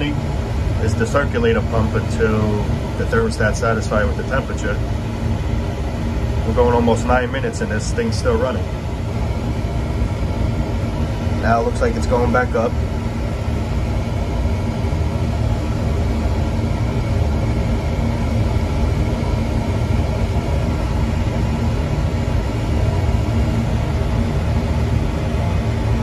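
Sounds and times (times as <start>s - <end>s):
oil burner droning: 0.0s - 26.0s.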